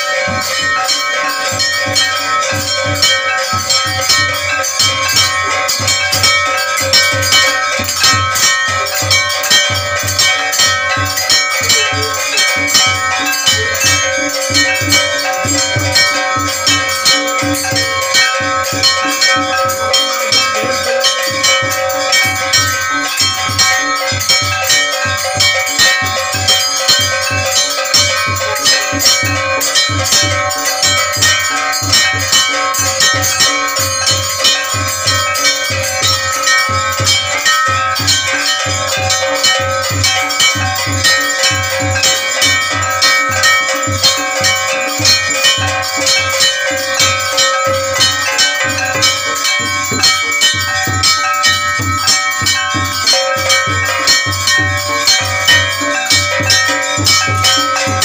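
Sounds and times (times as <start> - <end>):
metal gongs: 0.0 - 58.0
ringing bells: 0.0 - 58.0
steady drum beat: 0.0 - 58.0.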